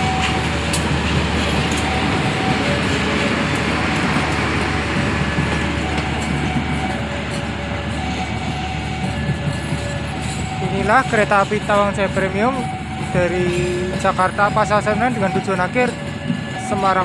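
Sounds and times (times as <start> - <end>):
diesel locomotive engine rumble: 0.0 - 17.0
train wheels on rails: 0.0 - 17.0.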